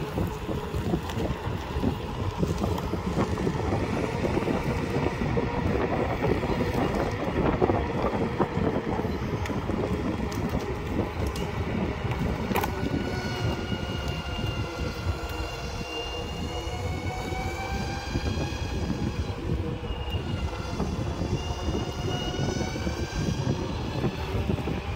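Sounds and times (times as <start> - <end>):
skateboard wheels rolling on asphalt: 0.0 - 24.9
whine drifting in pitch: 0.0 - 24.9
wind buffeting microphone: 0.0 - 24.9.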